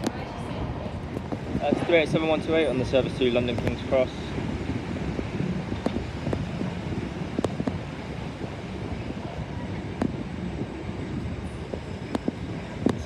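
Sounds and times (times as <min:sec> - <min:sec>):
wind buffeting microphone: 0:00.0 - 0:13.0
electric train running: 0:00.9 - 0:13.0.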